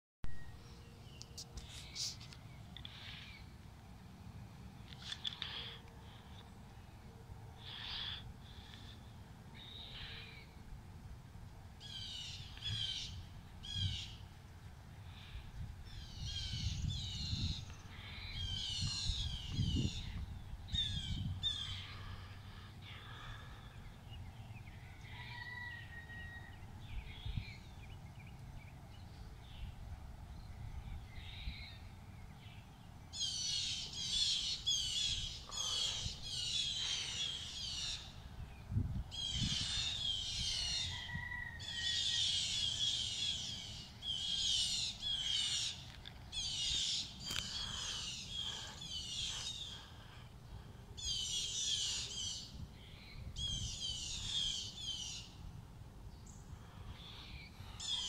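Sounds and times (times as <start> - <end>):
birds calling harshly: 0.4 - 3.6, 4.8 - 10.6, 11.8 - 55.5, 56.1 - 58.0.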